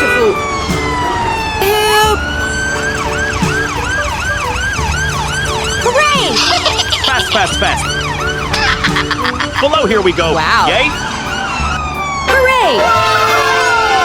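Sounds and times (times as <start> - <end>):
siren yelping: 0.0 - 14.0.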